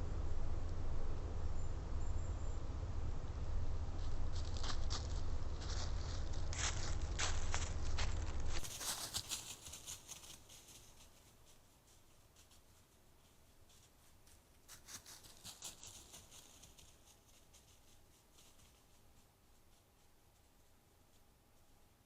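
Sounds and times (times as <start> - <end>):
faint ticks and rustles: 4.0 - 22.0.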